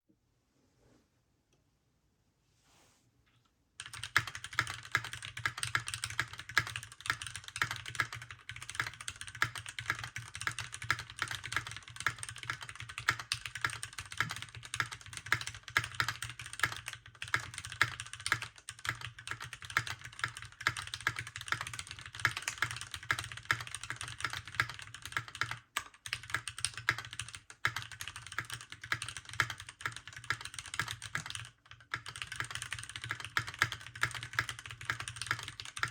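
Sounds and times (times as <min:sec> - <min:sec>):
mechanical keyboard typing: 0:03.8 - 0:35.9.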